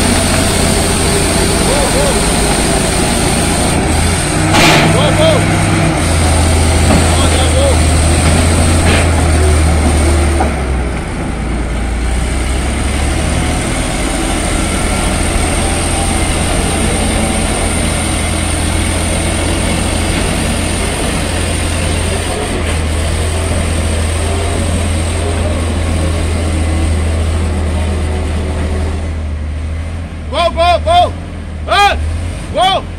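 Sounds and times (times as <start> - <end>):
bulldozer diesel engine droning: 0.0 - 32.9.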